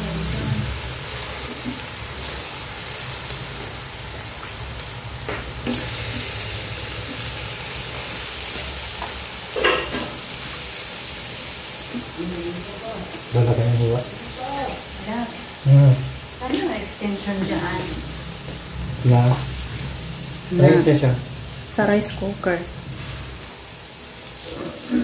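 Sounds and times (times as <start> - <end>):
pot sizzling: 0.0 - 25.0.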